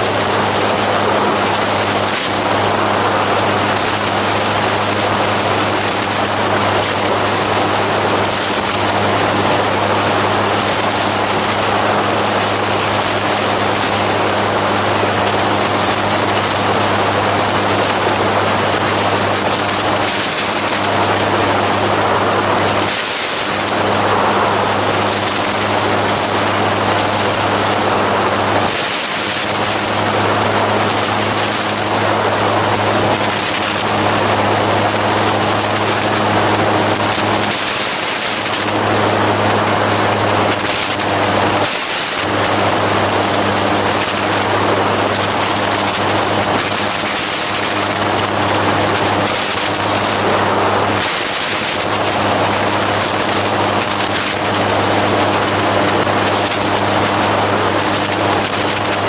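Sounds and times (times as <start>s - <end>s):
aircraft engine humming: 0.0s - 41.7s, 42.3s - 59.0s
rushing air noise: 0.0s - 59.0s.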